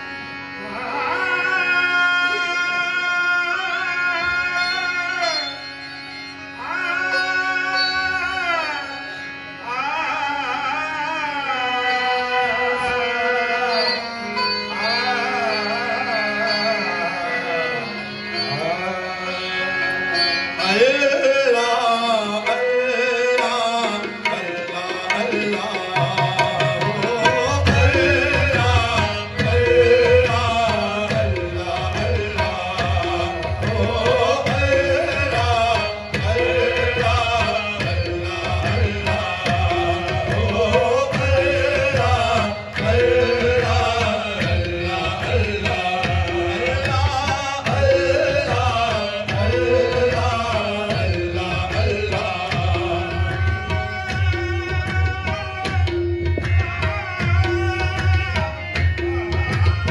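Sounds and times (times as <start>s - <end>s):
instrumental accompaniment: 0.0s - 59.9s
devotional singing: 6.5s - 58.7s.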